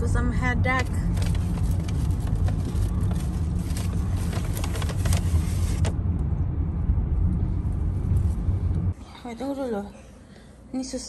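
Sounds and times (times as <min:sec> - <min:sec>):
car cabin road noise: 0:00.0 - 0:09.0.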